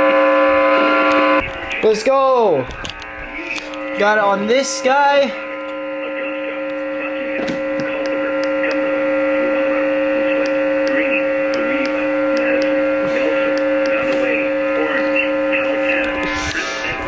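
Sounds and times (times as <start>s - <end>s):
steady buzzy radio whine: 0.0s - 17.0s.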